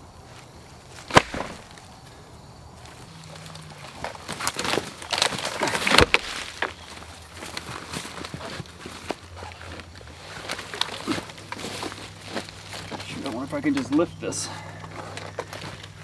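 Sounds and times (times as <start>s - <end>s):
dry wood snapping and cracking: 0.9s - 2.2s, 2.8s - 16.0s.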